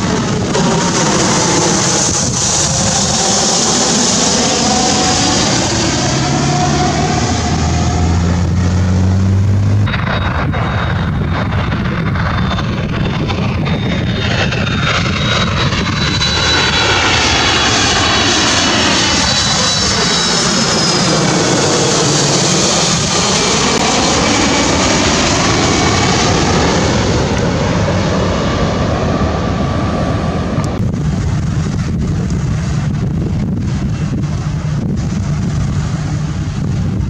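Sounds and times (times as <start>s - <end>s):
jet airliner roaring overhead: 0.0s - 37.0s
jet engine whine: 0.0s - 37.0s
wind buffeting microphone: 0.0s - 37.0s.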